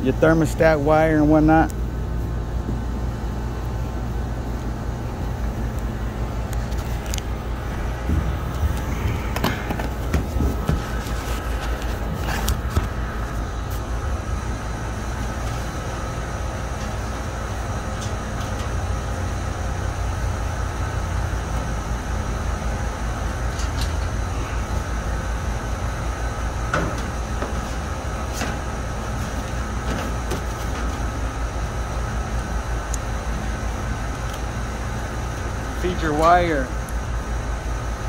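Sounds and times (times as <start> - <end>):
machinery drone: 0.0 - 38.0.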